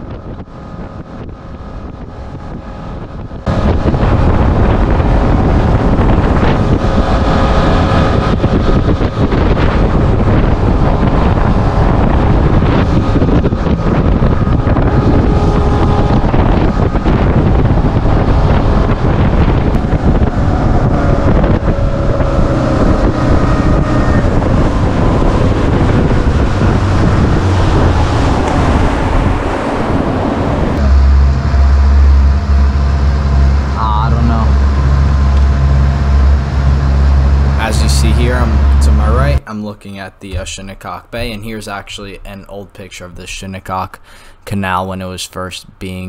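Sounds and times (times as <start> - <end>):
motorboat engine running: 0.0 - 39.4
wind buffeting microphone: 0.0 - 44.5
deep hum: 0.0 - 44.6.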